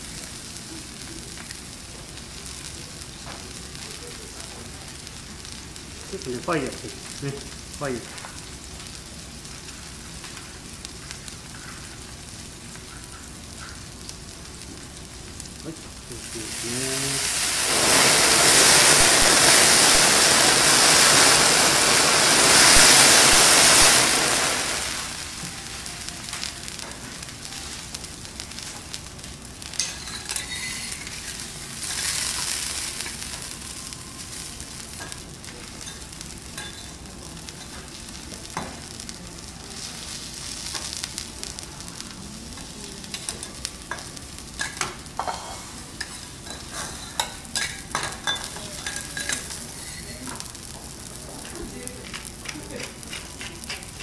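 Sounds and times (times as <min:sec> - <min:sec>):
steak sizzling on griddle: 0:00.0 - 0:54.0
crackles and pops: 0:00.2 - 0:45.2.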